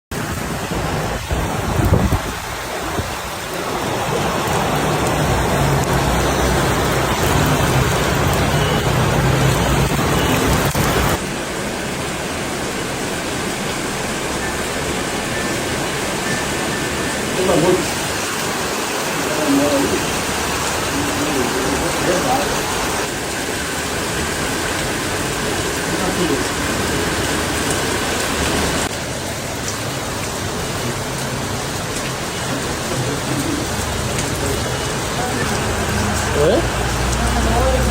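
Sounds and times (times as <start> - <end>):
heavy rain pouring: 0.1 - 37.9.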